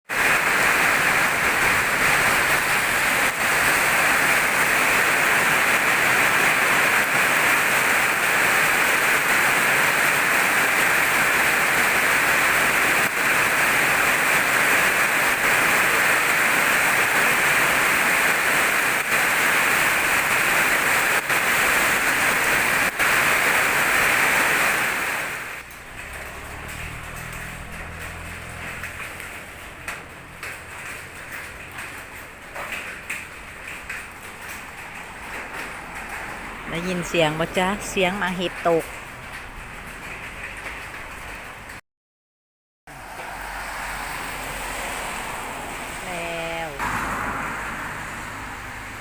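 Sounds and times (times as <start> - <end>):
rain and hail downpour: 0.1 - 41.8.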